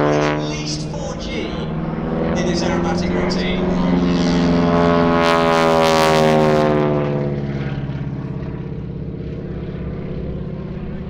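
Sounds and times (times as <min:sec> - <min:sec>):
biplane engine passing by: 0:00.0 - 0:11.0.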